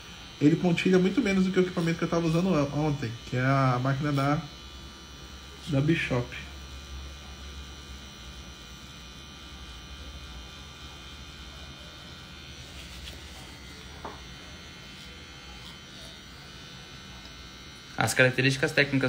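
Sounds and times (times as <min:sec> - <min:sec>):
tattoo machine buzzing: 0:00.0 - 0:19.0.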